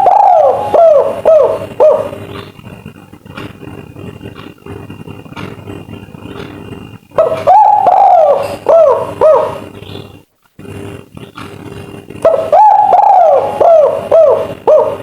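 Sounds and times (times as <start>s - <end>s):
dove cooing: 0.0s - 4.4s, 6.2s - 10.2s, 11.2s - 15.0s.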